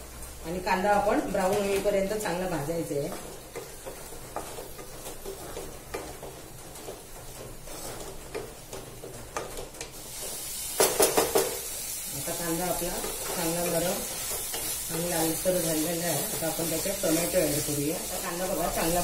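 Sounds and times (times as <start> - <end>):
onions sizzling in hot oil: 0.0 - 19.0
wooden spatula scraping a pan: 0.7 - 19.0.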